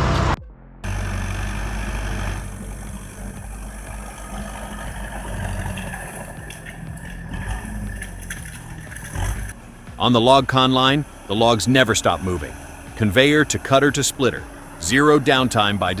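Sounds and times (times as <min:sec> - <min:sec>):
engine running steadily: 0:00.1 - 0:16.0.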